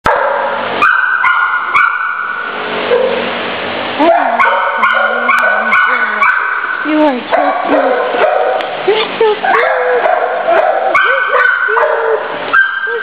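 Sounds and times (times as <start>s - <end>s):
dogs barking: 0.0s - 3.3s, 4.0s - 13.0s.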